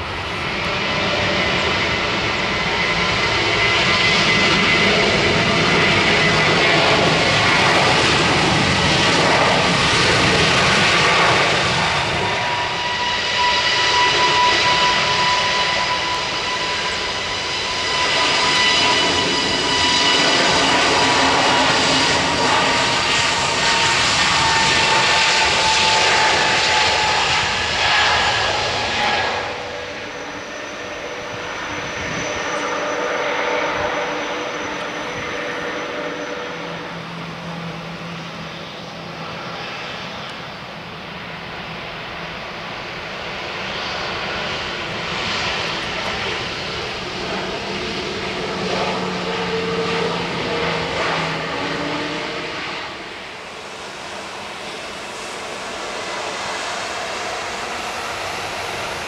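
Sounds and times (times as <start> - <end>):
high whining fan tones: 0.0 - 59.0
jet airliner engines roaring: 0.0 - 59.0.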